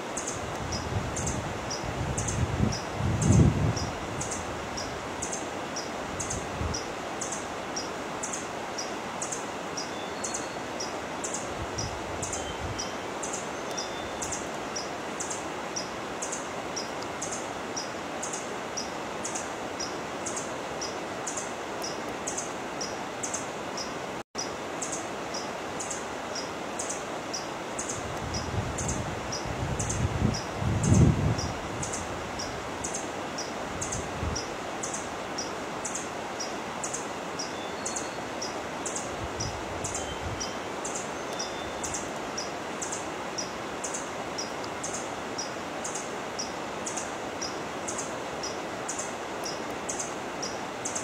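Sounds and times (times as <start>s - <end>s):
wind through leaves: 0.0s - 51.0s.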